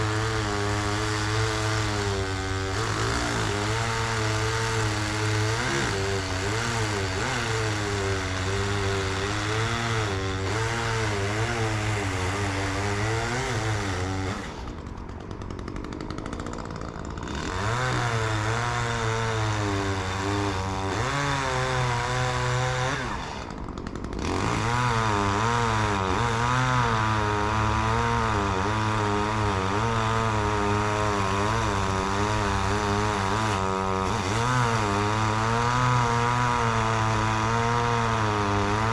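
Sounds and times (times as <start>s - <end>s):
two-stroke chainsaw cutting: 0.0s - 38.9s.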